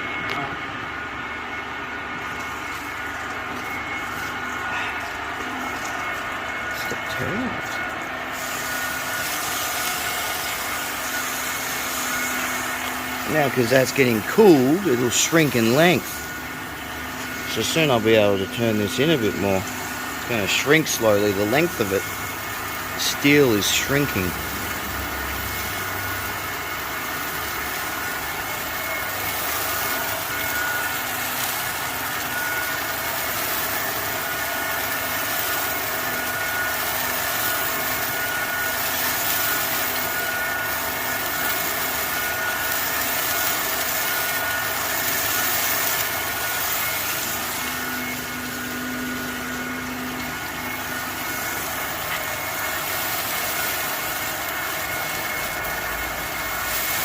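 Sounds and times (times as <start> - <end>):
workshop machinery hum: 0.0 - 57.0.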